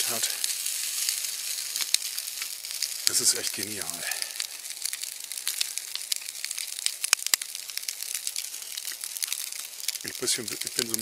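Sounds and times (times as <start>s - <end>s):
food sizzling in a frying pan: 0.0s - 11.0s
sharp pops: 0.0s - 11.0s.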